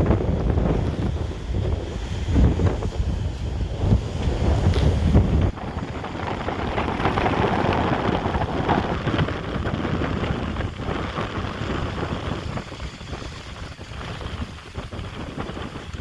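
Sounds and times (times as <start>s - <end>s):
waves breaking on rough sea: 0.0s - 16.0s
wind buffeting microphone: 0.0s - 16.0s.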